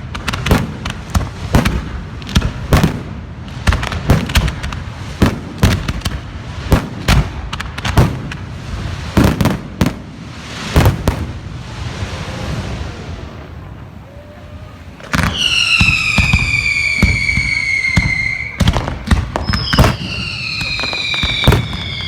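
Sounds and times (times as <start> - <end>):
fireworks bangs: 0.0 - 22.0
fireworks hissing crackle: 0.0 - 22.0.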